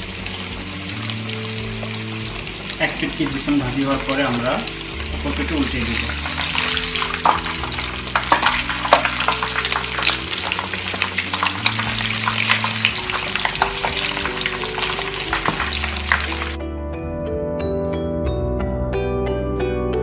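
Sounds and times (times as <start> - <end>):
chicken deep-frying in oil: 0.0 - 16.6.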